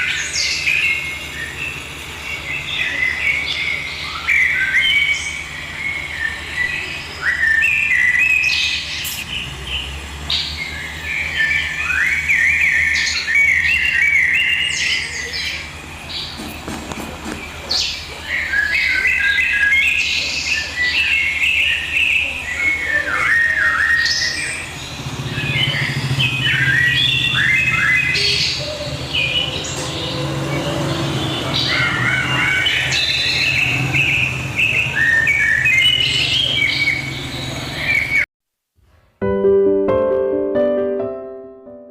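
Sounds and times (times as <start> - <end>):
birds chirping and trilling: 0.0 - 38.3.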